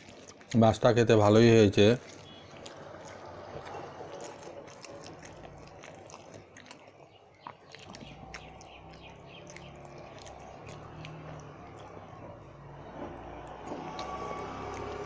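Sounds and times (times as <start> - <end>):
mouth chewing sounds: 0.0 - 15.0.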